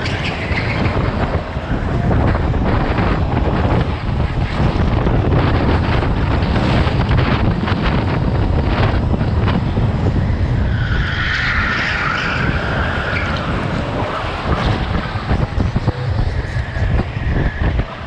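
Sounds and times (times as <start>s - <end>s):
go-kart engine: 0.0s - 18.0s
tires squealing: 0.0s - 18.0s
wind buffeting microphone: 0.0s - 18.0s.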